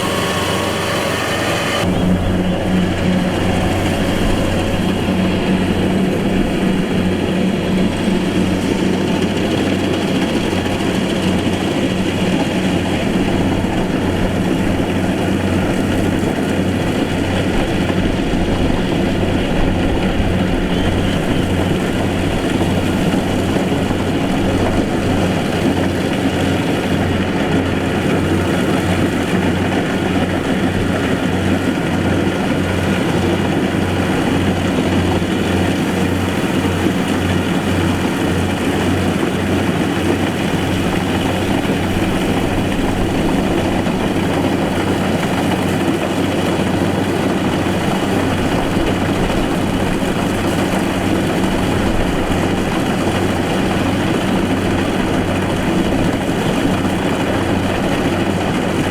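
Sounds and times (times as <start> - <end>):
combine harvester diesel engine: 0.0 - 58.9.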